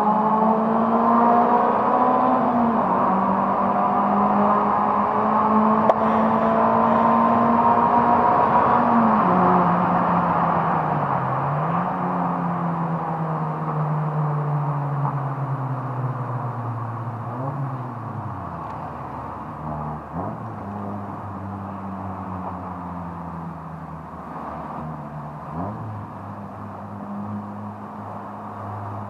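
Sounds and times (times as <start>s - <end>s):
car engine revving: 0.0s - 14.2s, 14.8s - 29.0s.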